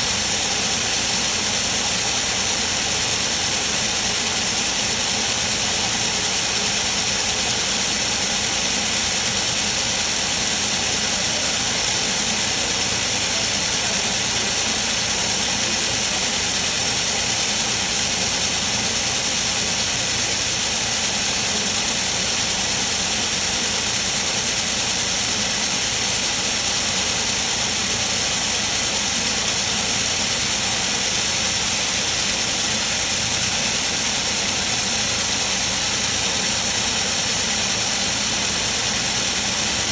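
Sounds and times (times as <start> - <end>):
machine hiss and hum: 0.0 - 39.9.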